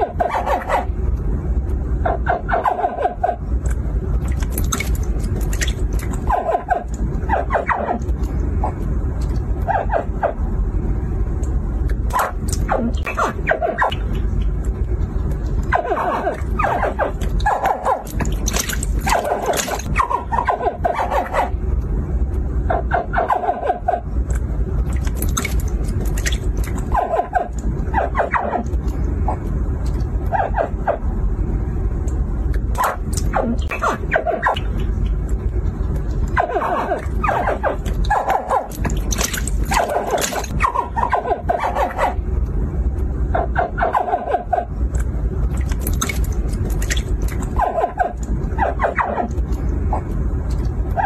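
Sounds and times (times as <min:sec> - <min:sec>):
low rumble: 0:00.0 - 0:51.0
steady low hum: 0:00.0 - 0:51.0.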